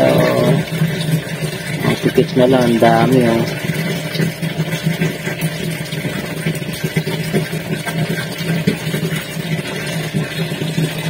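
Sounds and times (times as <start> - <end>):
aquarium air pump buzzing: 0.0 - 11.0.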